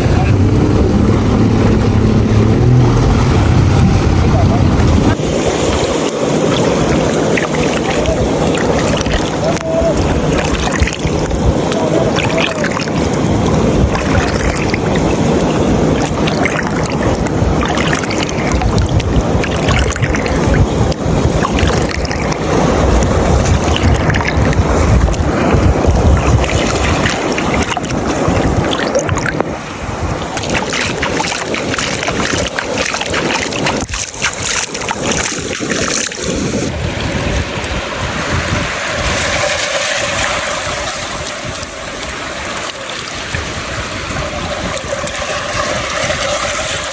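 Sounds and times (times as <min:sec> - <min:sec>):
ocean waves washing ashore: 0:00.0 - 0:46.9
wind buffeting microphone: 0:00.0 - 0:46.9.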